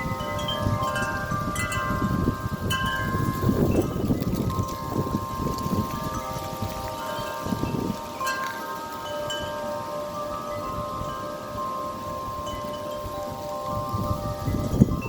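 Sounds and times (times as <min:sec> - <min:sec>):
wind chimes ringing: 0:00.0 - 0:15.0
wind rumbling on microphone: 0:00.0 - 0:15.0.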